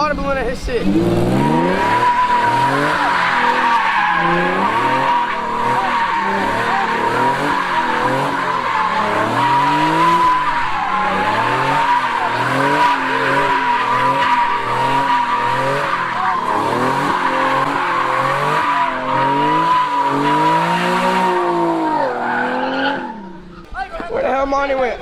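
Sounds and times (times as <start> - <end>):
car engine revving: 0.0 - 23.7
tire squealing: 0.0 - 24.9.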